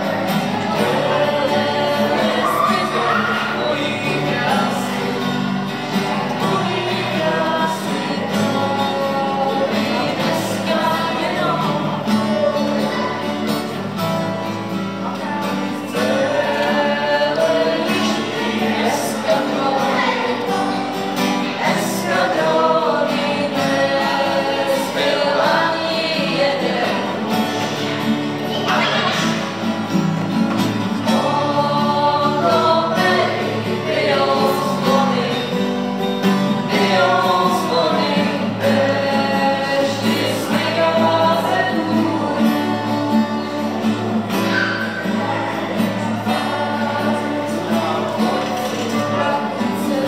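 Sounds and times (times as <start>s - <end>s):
acoustic guitars: 0.0s - 50.0s
group singing: 0.0s - 50.0s.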